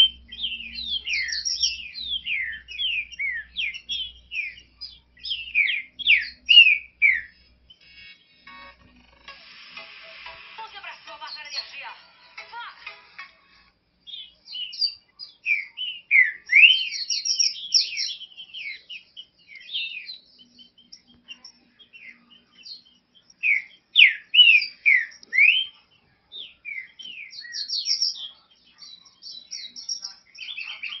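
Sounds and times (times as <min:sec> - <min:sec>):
bird singing whistled notes: 0:00.0 - 0:08.0, 0:14.0 - 0:31.0.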